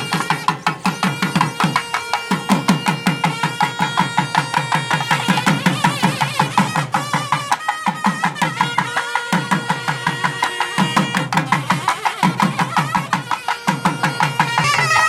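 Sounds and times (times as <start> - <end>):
barrel drum beating: 0.0 - 15.0
wind instrument melody: 0.0 - 15.0.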